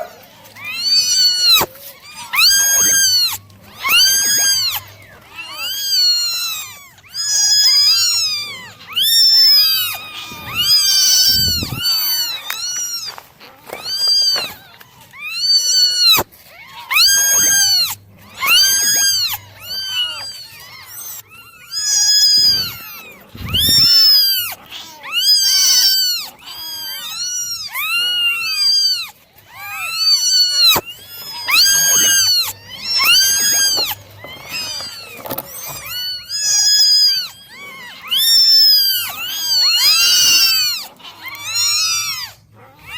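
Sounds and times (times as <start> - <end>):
kittens meowing: 0.0 - 42.9.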